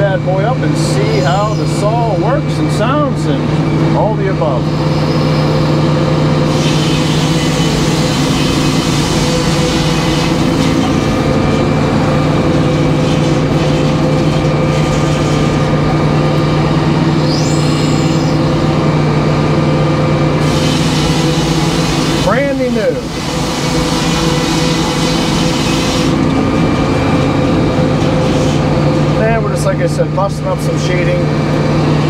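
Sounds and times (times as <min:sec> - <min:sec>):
power unit hum: 0:00.0 - 0:32.0
circular saw cutting log: 0:00.6 - 0:03.1, 0:04.6 - 0:18.8, 0:20.4 - 0:29.4.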